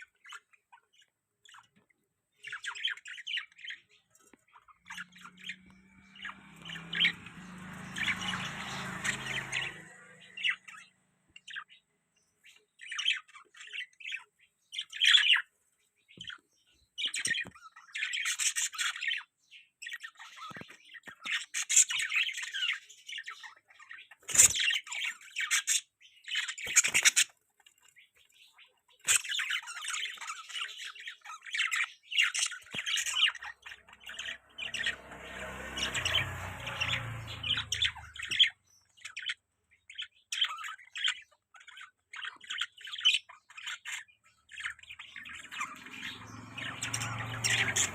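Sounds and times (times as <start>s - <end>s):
budgerigars chirping and squawking: 0.0s - 47.9s.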